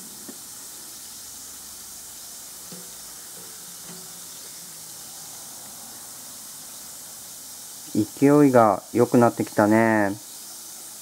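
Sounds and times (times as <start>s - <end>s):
bath bombs fizzing in water: 0.0s - 11.0s.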